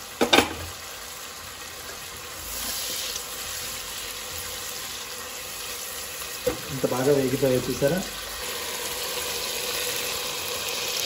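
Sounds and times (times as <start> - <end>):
prawns sizzling in hot oil: 0.0 - 11.0.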